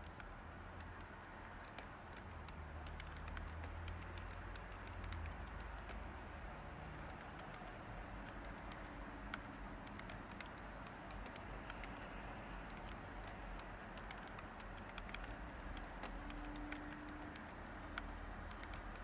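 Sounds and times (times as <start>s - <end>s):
keyboard typing: 0.0s - 19.0s.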